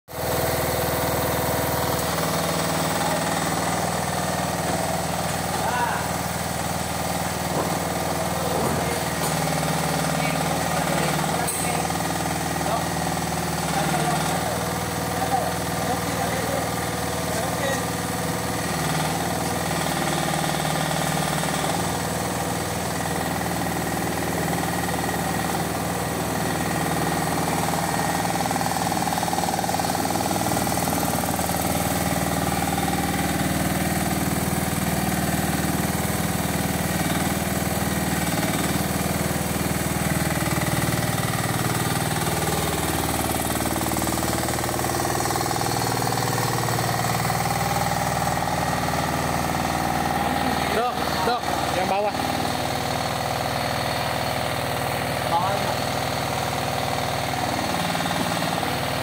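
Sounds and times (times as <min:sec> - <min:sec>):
mini excavator engine running: 0:00.1 - 0:59.0.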